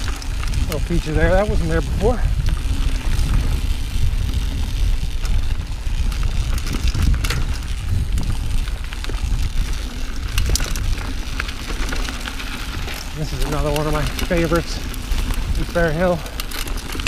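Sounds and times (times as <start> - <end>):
bike rattling: 0.0 - 17.0
tyre noise on dirt trail: 0.0 - 17.0
wind rumble on microphone: 0.0 - 17.0.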